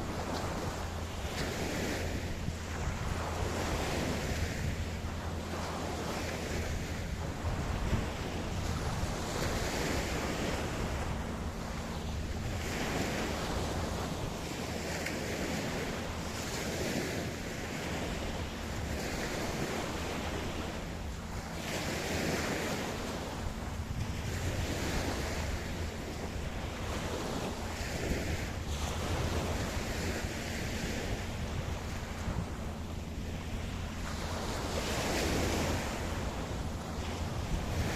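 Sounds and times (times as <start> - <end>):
ocean waves breaking on beach: 0.0 - 37.9.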